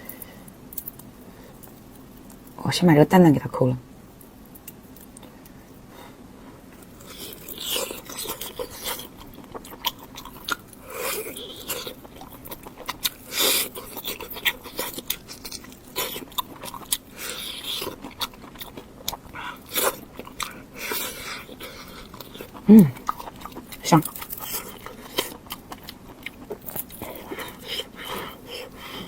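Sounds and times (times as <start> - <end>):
person chewing food: 0.0 - 2.6, 4.2 - 29.0.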